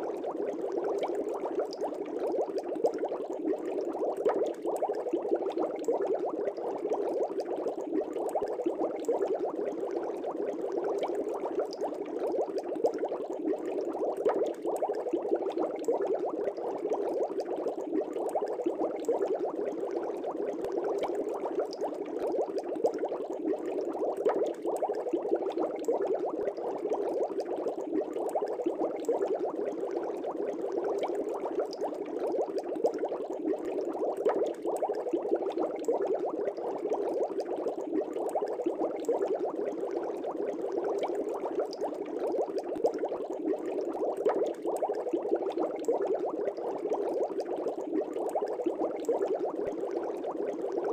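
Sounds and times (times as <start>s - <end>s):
aquarium air bubbling: 0.0s - 50.9s.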